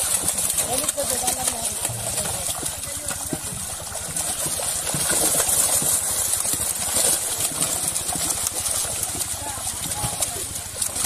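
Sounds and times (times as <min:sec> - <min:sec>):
fish splashing in net: 0:00.0 - 0:11.0.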